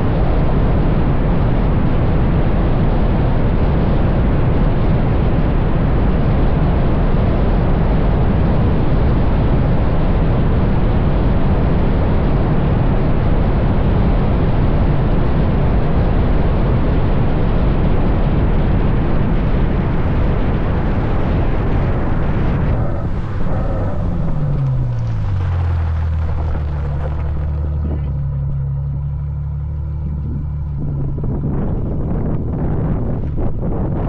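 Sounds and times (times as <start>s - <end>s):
wind and road noise rushing: 0.0s - 34.0s.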